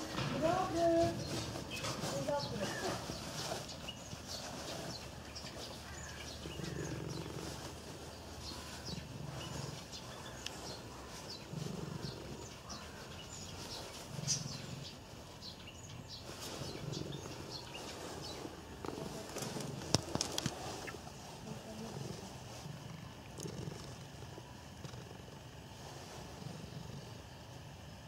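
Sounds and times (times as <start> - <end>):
cat purring: 0.0 - 28.0
small birds chirping: 0.0 - 28.0.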